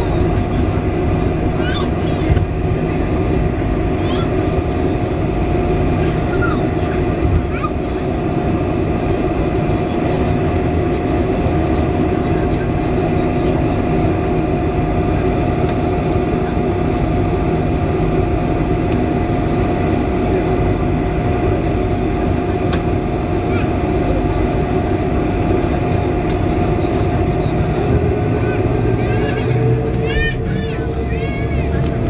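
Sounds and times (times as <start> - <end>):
jet engine rumble and hiss: 0.0 - 32.0.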